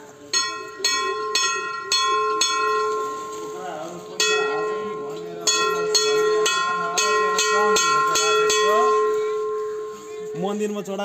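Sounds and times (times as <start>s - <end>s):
temple bell ringing: 0.2s - 10.8s.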